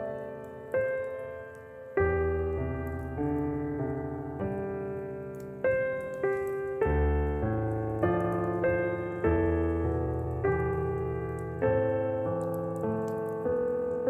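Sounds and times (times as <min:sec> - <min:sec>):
solo piano hymn: 0:00.0 - 0:14.0.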